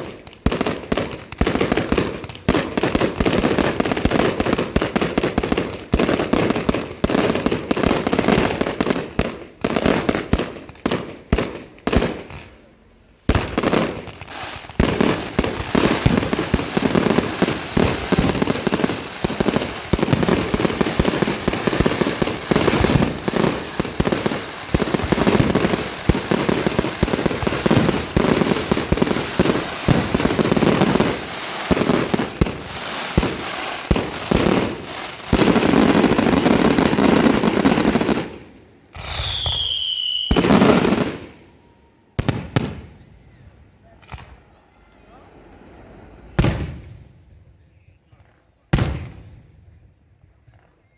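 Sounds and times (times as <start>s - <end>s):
fireworks bangs and crackles: 0.0s - 44.5s, 45.6s - 50.9s.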